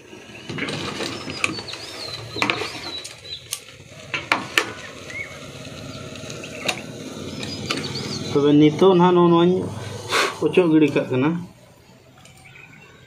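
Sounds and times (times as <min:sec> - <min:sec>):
low mechanical noise: 0:00.0 - 0:13.0.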